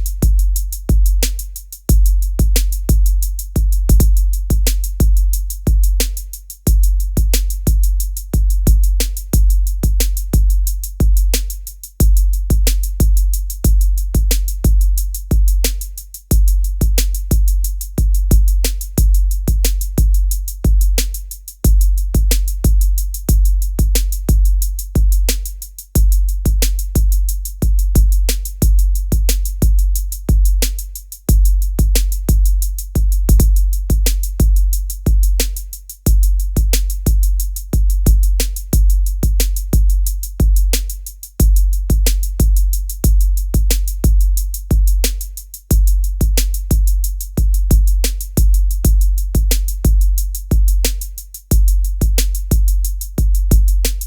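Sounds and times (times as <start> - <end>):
drum machine beat: 0.0 - 54.0.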